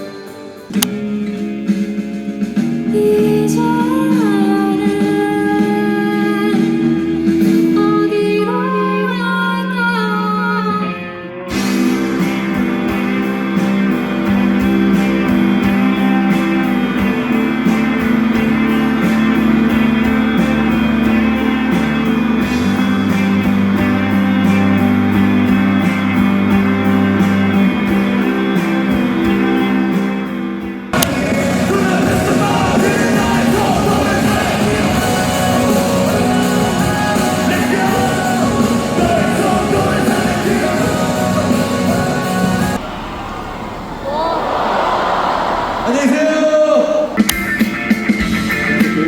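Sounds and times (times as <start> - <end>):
live band with singing and guitar: 0.0 - 43.0, 47.0 - 49.0.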